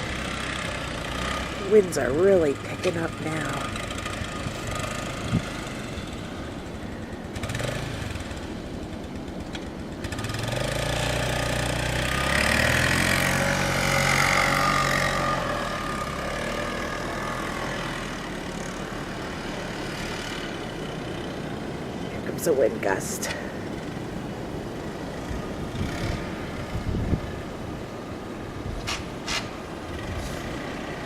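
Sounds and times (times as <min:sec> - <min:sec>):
vehicle engine driving past: 0:00.0 - 0:09.2, 0:10.0 - 0:31.0
rush of blizzard wind: 0:00.0 - 0:31.0.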